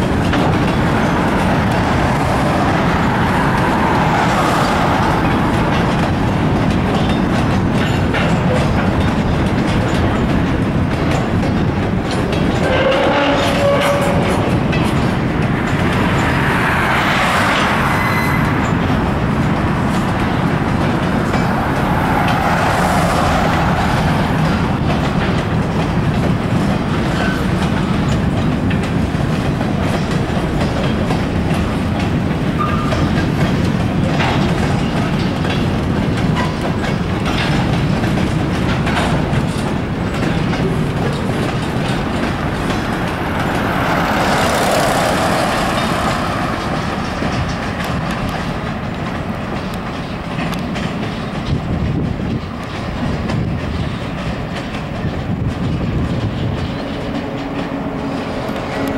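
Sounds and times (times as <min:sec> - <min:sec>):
train wheels rumbling over rails: 0:00.0 - 0:58.9.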